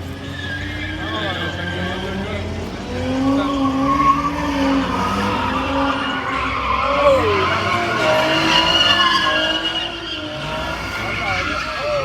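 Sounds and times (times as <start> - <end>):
car engine at high revs: 0.0 - 12.0
tires squealing: 0.0 - 12.0.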